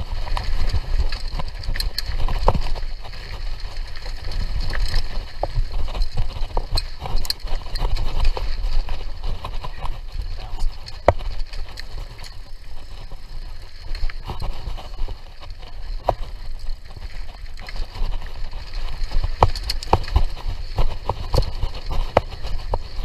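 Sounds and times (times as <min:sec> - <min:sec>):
bike rattling over bumps: 0:00.0 - 0:23.0
bike tyres rumbling on dirt: 0:00.0 - 0:23.0.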